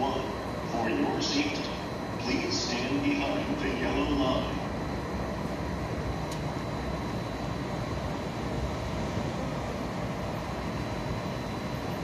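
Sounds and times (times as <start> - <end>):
low rumble and hum: 0.0 - 12.0.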